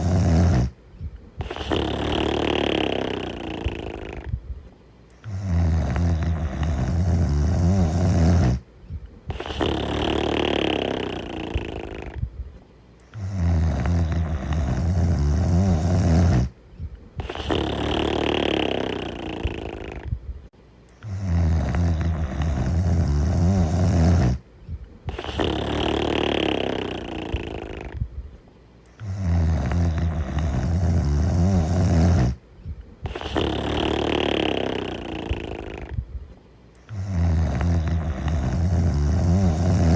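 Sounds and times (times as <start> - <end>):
person snoring: 0.0 - 0.8, 1.4 - 4.4, 5.2 - 8.6, 9.3 - 12.3, 13.1 - 16.6, 17.2 - 20.2, 21.0 - 24.4, 25.1 - 28.0, 28.9 - 32.4, 33.0 - 36.0, 36.8 - 39.9.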